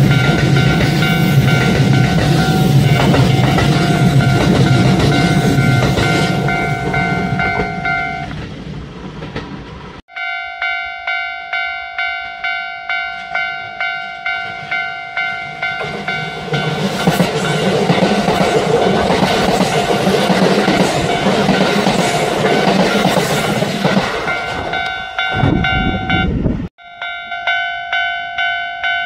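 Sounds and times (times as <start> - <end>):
level crossing warning bell: 0.0 - 8.4, 10.1 - 29.0
train rumbling past: 0.0 - 10.0, 12.9 - 26.7.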